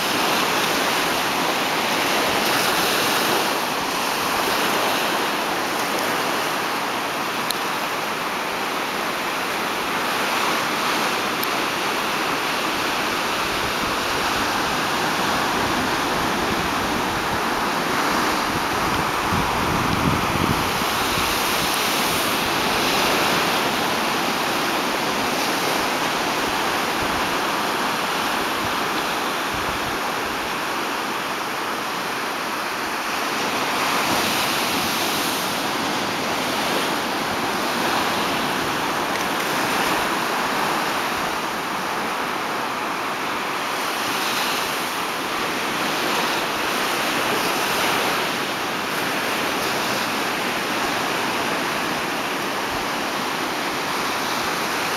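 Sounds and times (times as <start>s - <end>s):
ocean waves breaking on beach: 0.0s - 54.9s.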